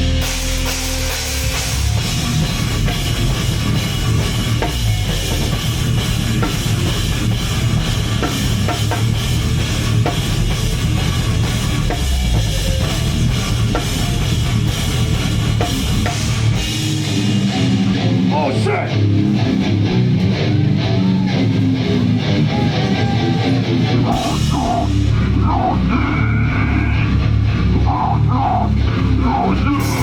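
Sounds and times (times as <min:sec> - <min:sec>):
heavy band playing live: 0:00.0 - 0:30.0.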